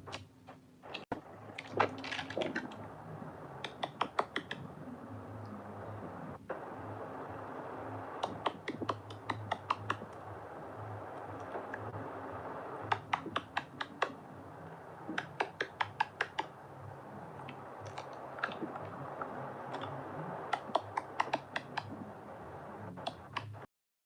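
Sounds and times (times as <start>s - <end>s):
faint steady hiss: 0.0s - 23.7s.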